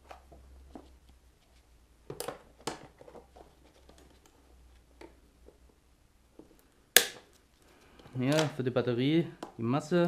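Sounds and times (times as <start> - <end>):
gloved hands handling plastic: 0.0 - 8.7.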